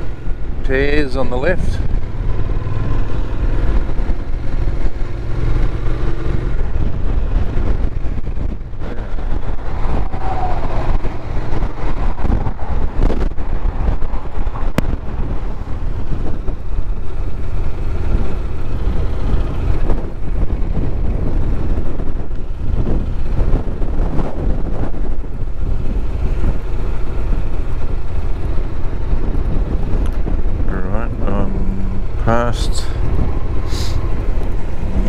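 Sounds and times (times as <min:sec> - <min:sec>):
motorcycle engine running: 0:00.0 - 0:35.0
wind noise on microphone: 0:00.0 - 0:35.0.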